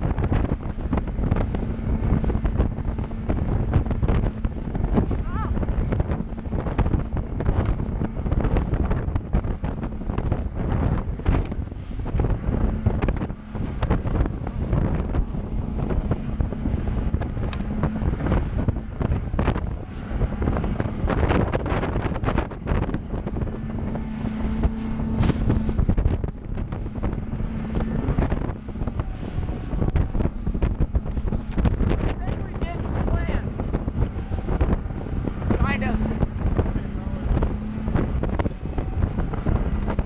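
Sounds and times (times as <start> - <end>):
boat motor hum: 0.0 - 40.0
hull knocking against waves: 0.0 - 40.0
wind buffeting microphone: 0.0 - 40.0.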